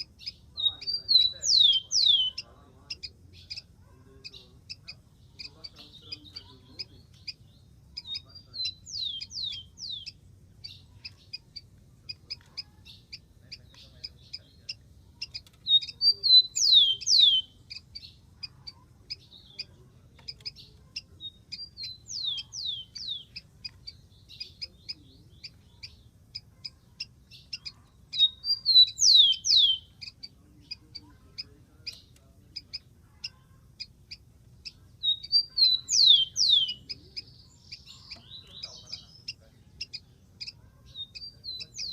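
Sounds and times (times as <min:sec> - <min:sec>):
sparrow singing: 0:00.0 - 0:41.9.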